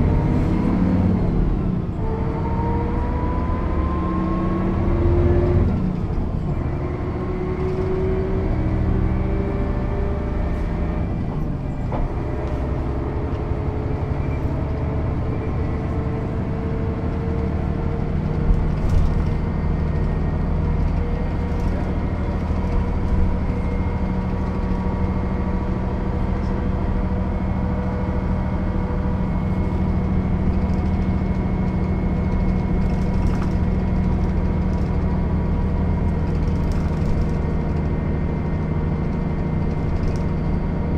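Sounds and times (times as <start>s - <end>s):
bus diesel engine running: 0.0s - 40.9s.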